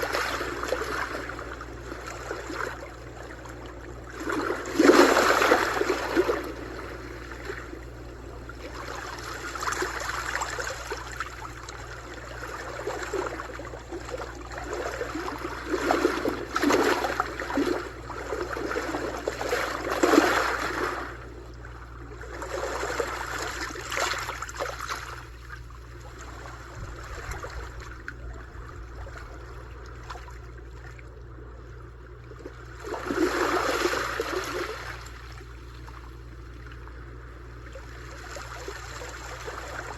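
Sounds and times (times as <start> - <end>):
sea waves breaking on shore: 0.0 - 31.1, 32.2 - 39.9.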